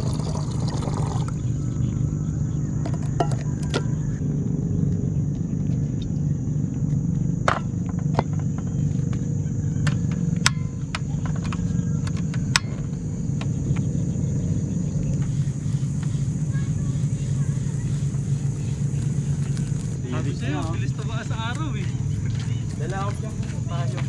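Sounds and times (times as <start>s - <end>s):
insect buzz: 0.0s - 24.0s
low rumble: 0.0s - 24.0s.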